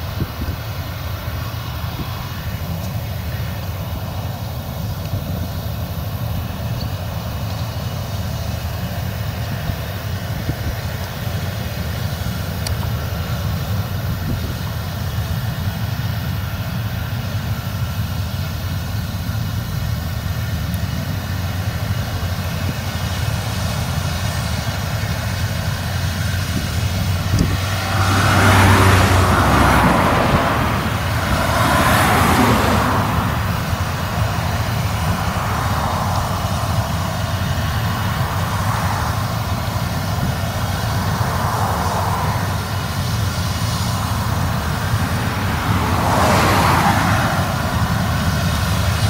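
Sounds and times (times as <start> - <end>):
broad rushing noise: 0.0 - 49.0
combine harvester drone: 0.0 - 49.0.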